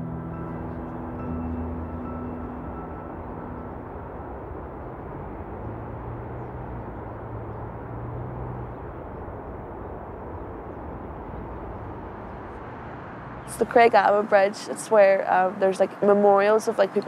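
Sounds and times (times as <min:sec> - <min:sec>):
low hum: 0:00.0 - 0:14.2
distant city traffic: 0:00.0 - 0:17.0.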